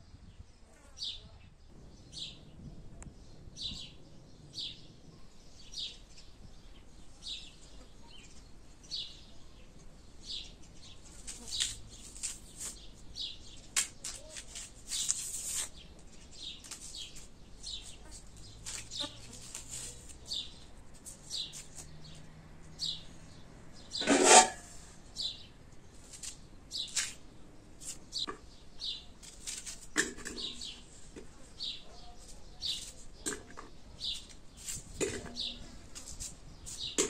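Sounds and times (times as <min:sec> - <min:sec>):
small birds chirping: 0:00.0 - 0:24.1, 0:24.8 - 0:37.0.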